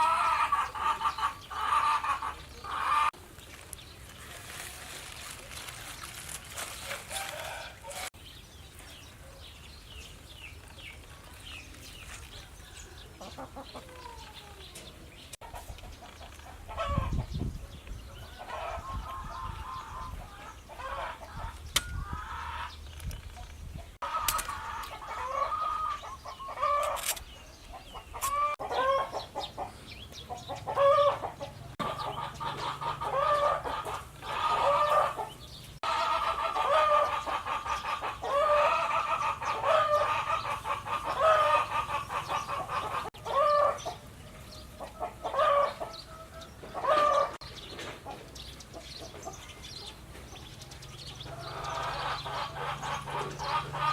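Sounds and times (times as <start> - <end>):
chickens clucking: 0.0 - 6.0, 6.6 - 53.9.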